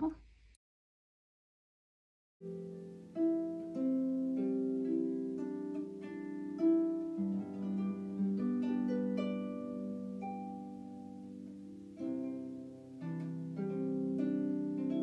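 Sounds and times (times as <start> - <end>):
gentle plucked melody: 2.4 - 15.0.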